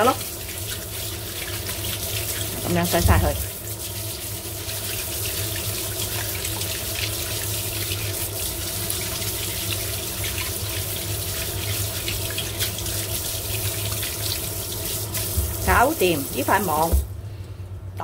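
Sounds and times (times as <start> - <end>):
tap water running into sink: 0.0 - 17.1.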